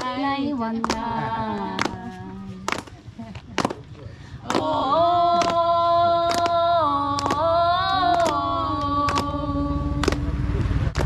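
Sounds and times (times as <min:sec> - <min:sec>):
voices singing long held notes: 0:00.0 - 0:02.9, 0:04.3 - 0:10.7
people clapping in time: 0:00.8 - 0:11.0.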